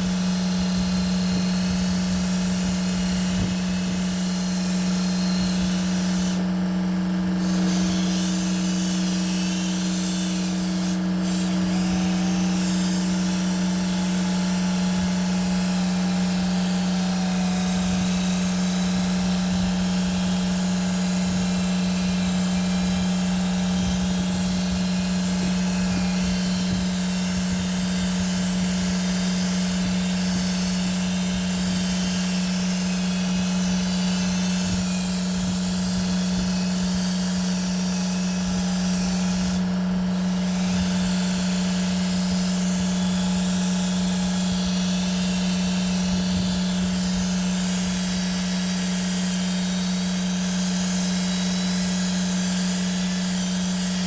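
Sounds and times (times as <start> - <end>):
power tool motor humming: 0.0 - 54.0.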